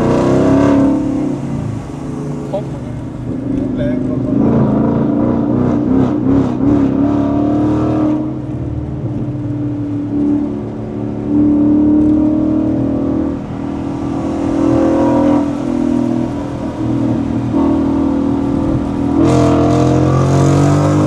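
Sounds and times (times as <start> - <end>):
car exhaust note: 0.0 - 21.0.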